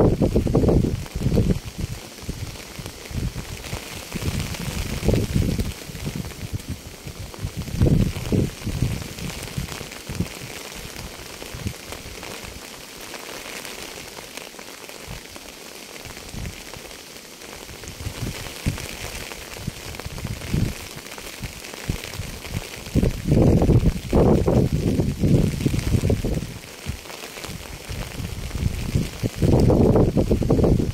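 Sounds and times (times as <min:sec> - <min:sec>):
steady rain hiss: 0:00.0 - 0:30.9.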